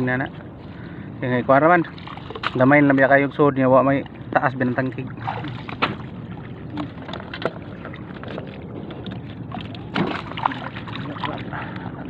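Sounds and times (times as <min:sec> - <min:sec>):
water sloshing and splashing: 0:01.7 - 0:12.0.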